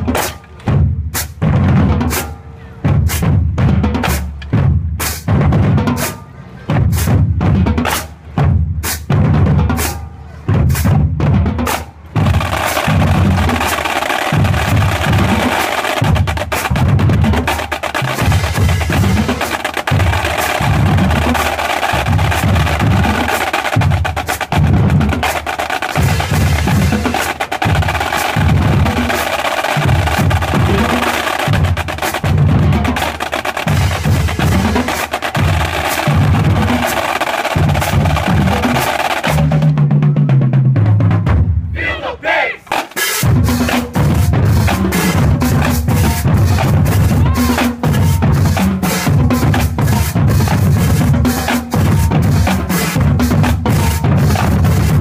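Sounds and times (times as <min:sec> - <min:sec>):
drumline playing: 0:00.0 - 0:55.0.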